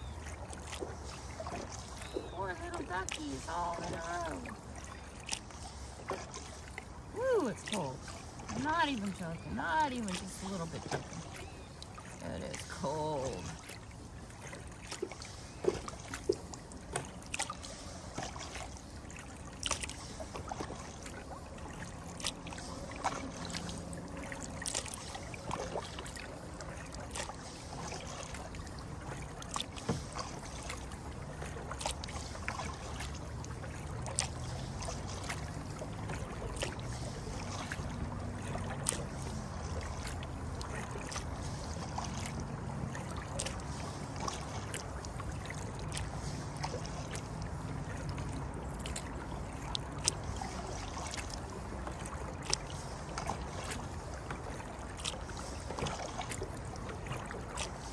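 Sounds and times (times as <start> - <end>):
paddle splashes and drips: 0.0 - 57.9.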